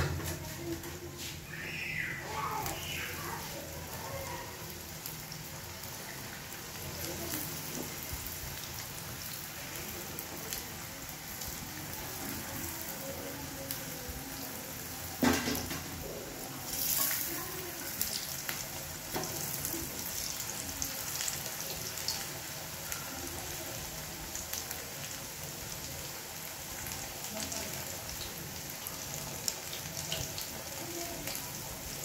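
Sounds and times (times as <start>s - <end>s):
patties sizzling in oil: 0.0s - 32.0s.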